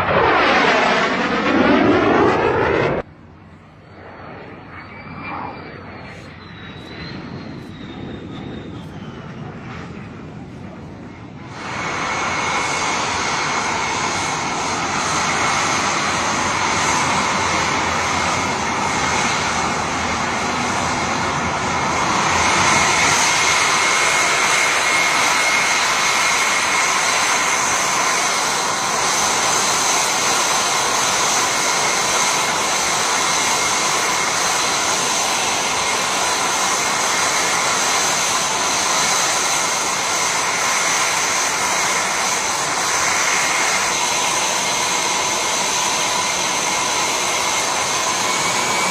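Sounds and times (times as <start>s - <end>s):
jet engine roaring and whining: 0.0s - 48.9s.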